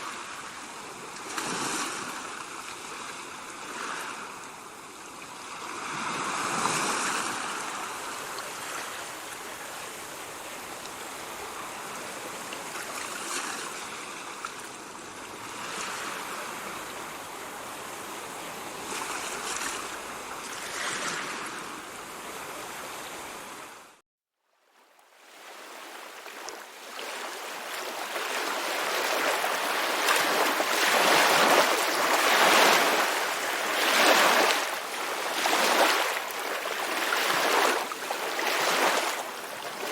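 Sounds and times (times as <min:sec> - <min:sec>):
ocean surf breaking waves: 0:00.0 - 0:24.0, 0:25.4 - 0:39.9.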